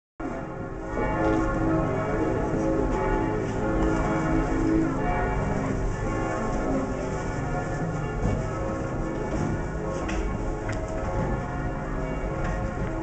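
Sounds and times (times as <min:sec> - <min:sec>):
church bells pealing: 0:00.2 - 0:13.0.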